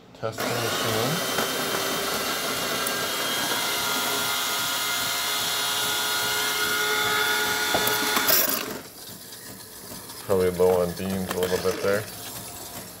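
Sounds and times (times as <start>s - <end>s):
coffee grinder grinding beans: 0.4s - 13.0s.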